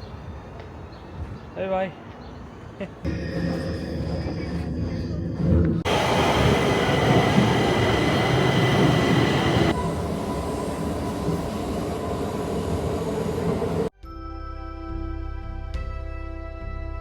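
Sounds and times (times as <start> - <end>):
train rumbling on rails: 0.0 - 13.9.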